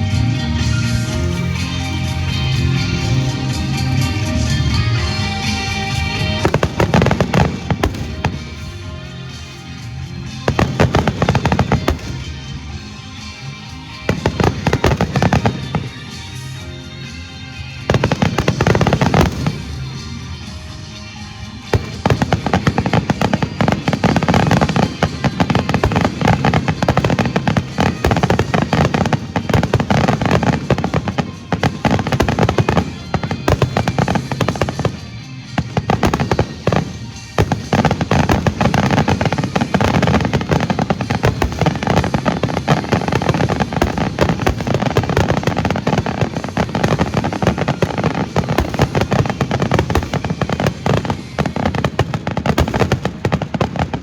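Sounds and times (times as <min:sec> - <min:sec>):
firework explosions and crackling: 0:00.0 - 0:54.0.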